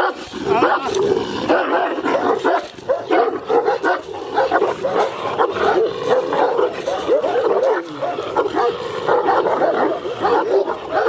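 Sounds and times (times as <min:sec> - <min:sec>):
dog barking rapidly: 0:00.0 - 0:11.0
dog yelping: 0:01.5 - 0:11.0.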